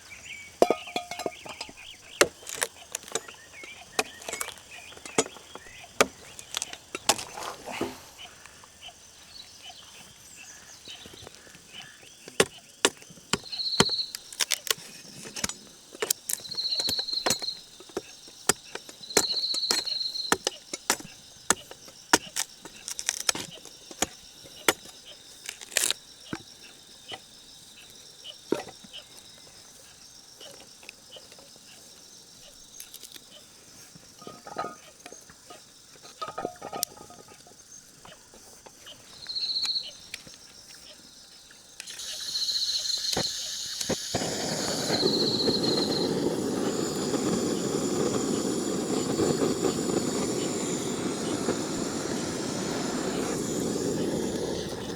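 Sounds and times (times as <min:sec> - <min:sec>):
insect trilling: 0:01.4 - 0:31.8, 0:37.4 - 0:54.9.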